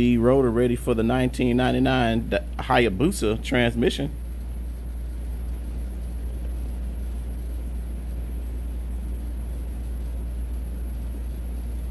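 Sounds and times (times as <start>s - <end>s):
faint high-pitched whine: 0.0s - 11.9s
low background hum: 0.0s - 11.9s.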